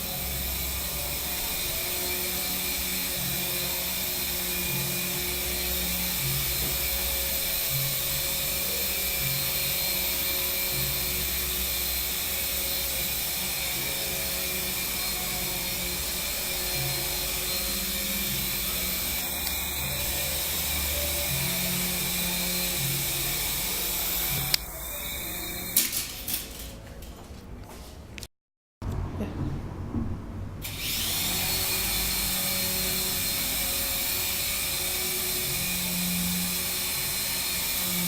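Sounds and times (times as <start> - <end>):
toy helicopter motor whine: 0.0 - 26.7, 30.6 - 38.0.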